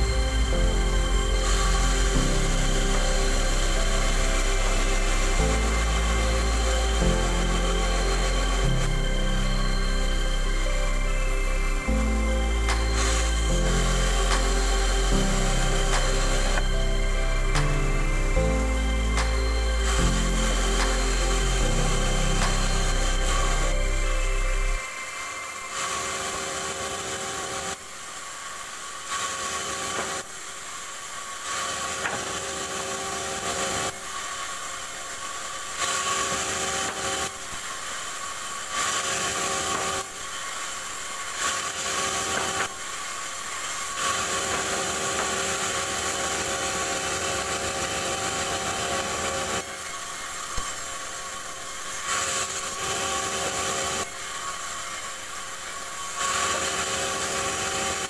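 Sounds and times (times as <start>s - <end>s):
band saw hum and sawing hiss: 0.0s - 58.0s.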